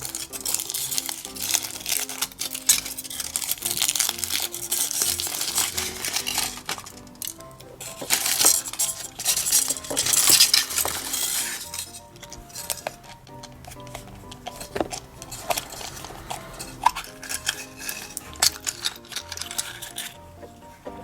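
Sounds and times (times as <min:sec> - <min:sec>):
plastic pieces clicking and rattling: 0:00.0 - 0:20.6
background music: 0:00.0 - 0:21.0
rustling: 0:00.0 - 0:21.0.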